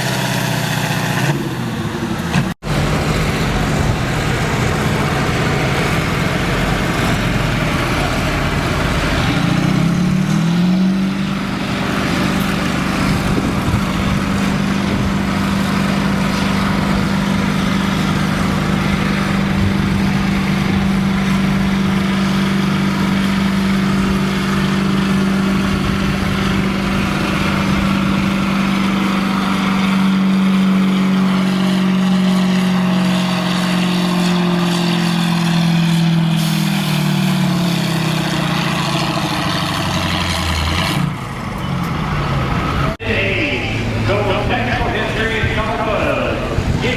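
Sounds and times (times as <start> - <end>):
tractor engine at full throttle: 0.0 - 46.9.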